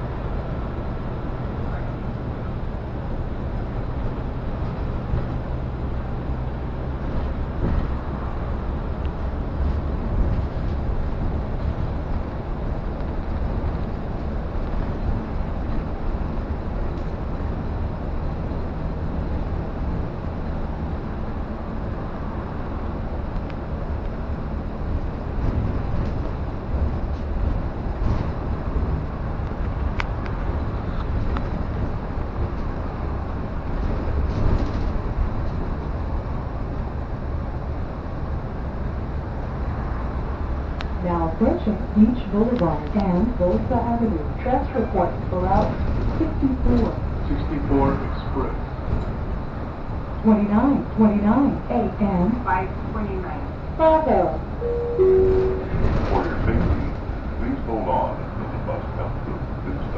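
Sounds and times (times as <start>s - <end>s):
bus engine drone: 0.0s - 59.9s
road rumble: 0.0s - 59.9s.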